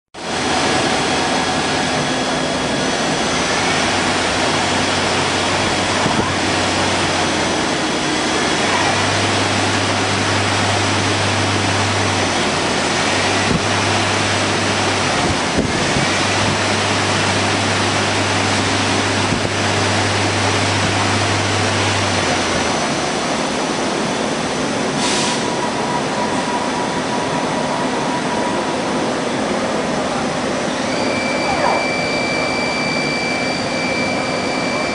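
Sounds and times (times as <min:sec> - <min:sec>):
lathe machine noise: 0:00.2 - 0:34.9.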